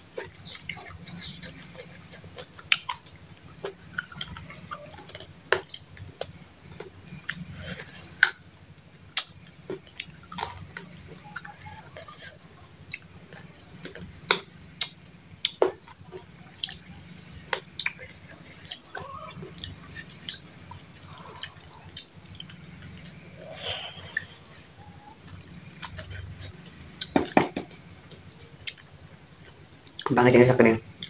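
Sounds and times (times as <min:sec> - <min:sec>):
low steady hum: 0:00.0 - 0:31.0
wet chewing and smacking: 0:00.1 - 0:30.2.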